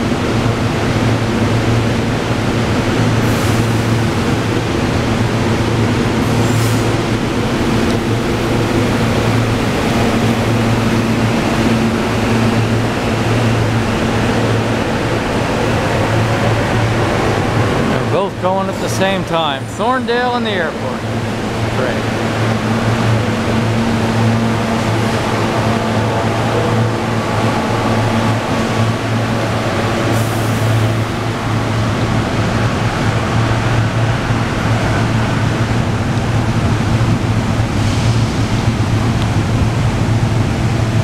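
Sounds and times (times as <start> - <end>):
electric train humming: 0.0 - 41.0.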